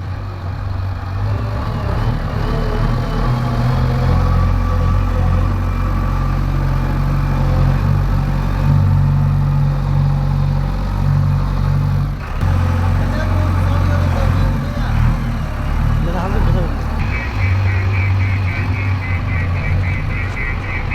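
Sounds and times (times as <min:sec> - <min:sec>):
heavy diesel engine running: 0:00.0 - 0:20.9.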